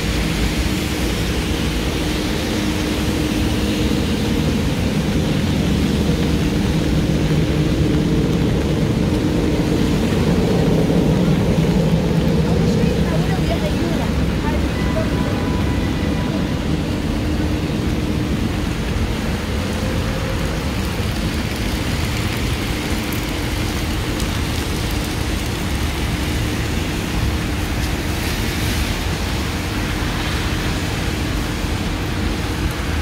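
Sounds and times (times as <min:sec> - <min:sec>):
heavy rain on a street: 0:00.0 - 0:33.0
traffic on wet roads: 0:00.0 - 0:33.0.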